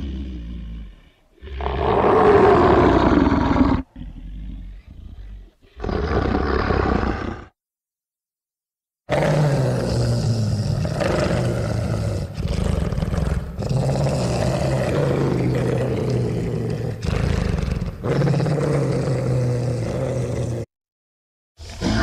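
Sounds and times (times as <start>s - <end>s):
low monster roar: 0.0s - 7.6s, 9.1s - 20.7s, 21.6s - 22.0s.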